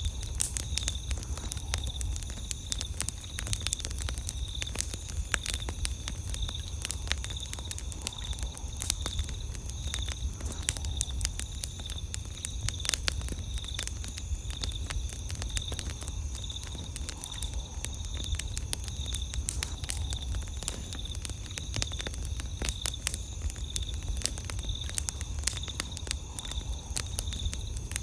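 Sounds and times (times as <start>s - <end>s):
campfire crackling and popping: 0.0s - 28.0s
insects chirping: 0.0s - 28.0s.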